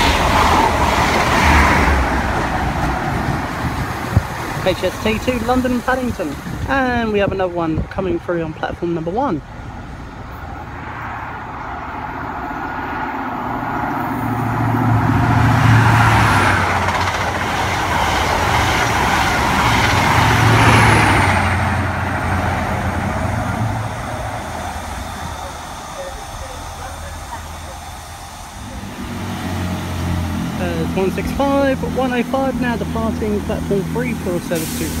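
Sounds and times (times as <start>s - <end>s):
train wheels rushing over rails: 0.0s - 7.4s, 10.2s - 35.0s
diesel engine hum: 0.0s - 35.0s.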